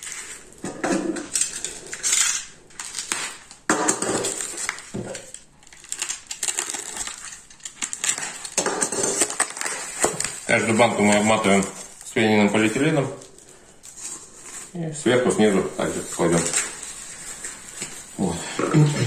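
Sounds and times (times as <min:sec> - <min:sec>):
plastic foam sheet rustling: 0:00.0 - 0:19.0.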